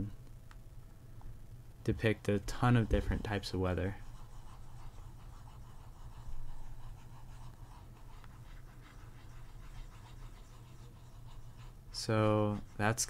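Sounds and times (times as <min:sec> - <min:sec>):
steady low hum: 0:00.0 - 0:13.0
stylus scratching on drawing tablet: 0:02.0 - 0:13.0.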